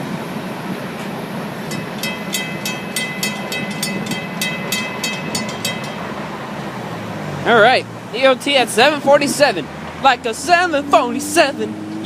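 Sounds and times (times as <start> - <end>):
freight train rumble: 0.0 - 12.0
railroad crossing bells ringing: 1.1 - 11.4.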